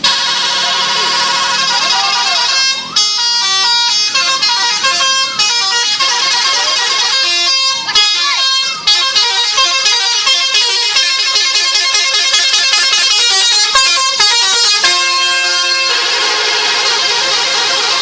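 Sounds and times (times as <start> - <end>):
bus horn playing melody: 0.0 - 18.0.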